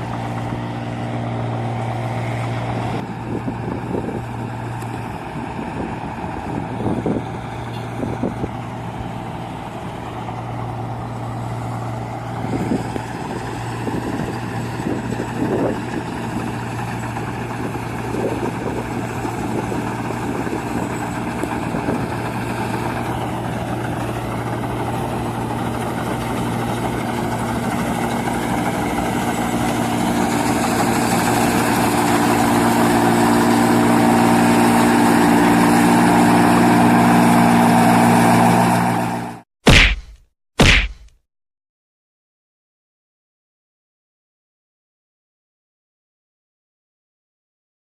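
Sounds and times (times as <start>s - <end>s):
combine harvester running: 0.0s - 39.8s.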